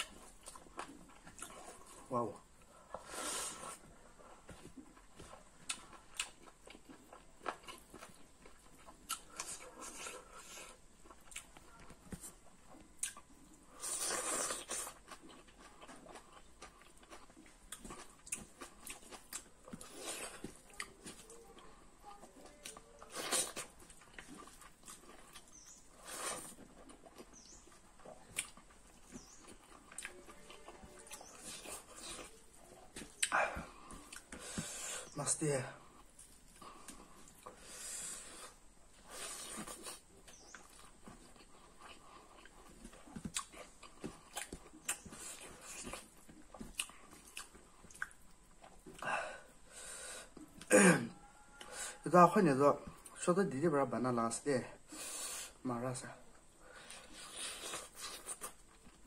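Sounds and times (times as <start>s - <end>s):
person chewing food: 0.0s - 53.2s, 54.8s - 59.0s.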